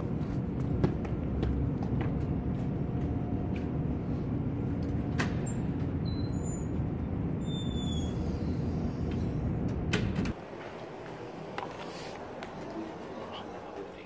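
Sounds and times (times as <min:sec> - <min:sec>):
low rumble of street traffic: 0:00.0 - 0:14.0.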